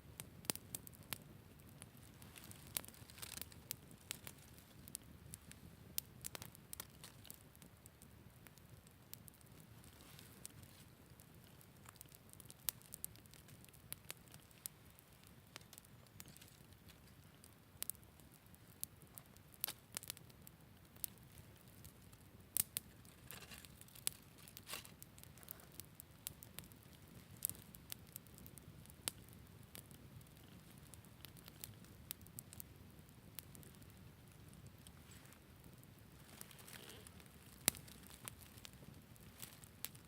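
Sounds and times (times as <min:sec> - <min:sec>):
campfire crackling: 0:00.0 - 0:40.0
low rumble of flames: 0:00.0 - 0:40.0.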